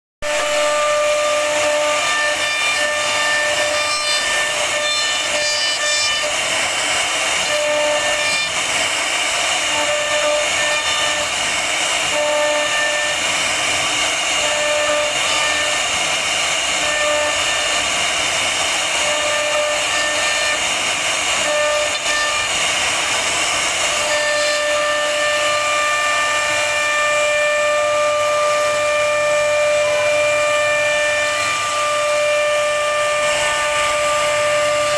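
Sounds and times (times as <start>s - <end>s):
router spindle whining: 0.2s - 34.9s
wood cutting noise: 0.2s - 34.9s.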